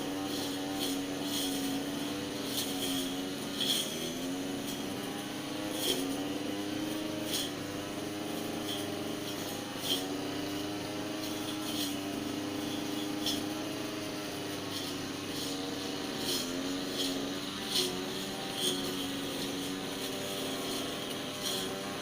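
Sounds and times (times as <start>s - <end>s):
brush cutter engine running: 0.0s - 22.0s.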